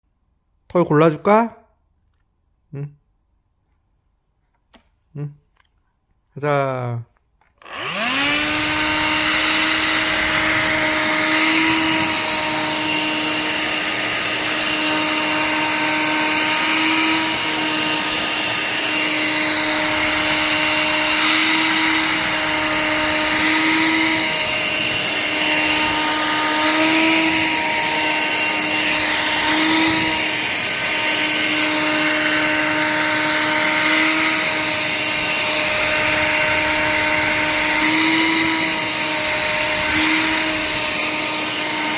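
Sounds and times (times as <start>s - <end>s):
vacuum cleaner running: 7.6s - 41.9s.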